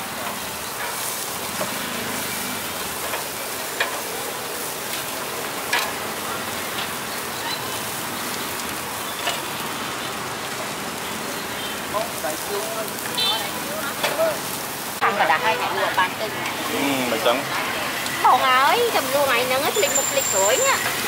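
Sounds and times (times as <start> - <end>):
crackles and clicks: 0.0 - 21.0
meat sizzling on a grill: 0.0 - 21.0.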